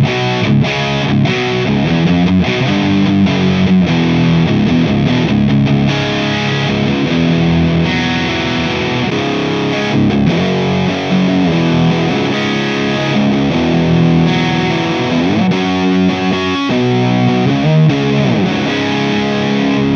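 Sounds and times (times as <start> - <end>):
distorted electric guitar riff: 0.0 - 19.9.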